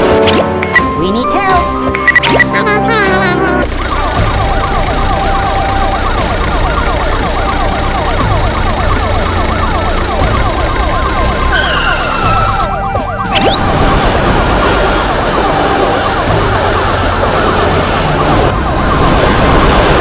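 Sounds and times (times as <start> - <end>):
police sirens yelping: 3.5 - 20.0
low vehicle rumble: 3.6 - 20.0.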